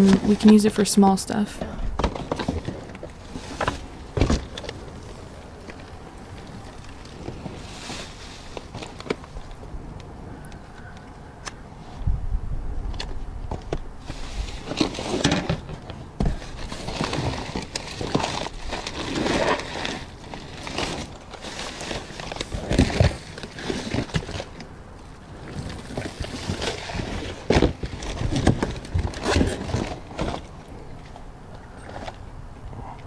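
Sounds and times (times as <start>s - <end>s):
rustling and crinkling packaging: 0.0s - 9.8s, 13.0s - 32.2s.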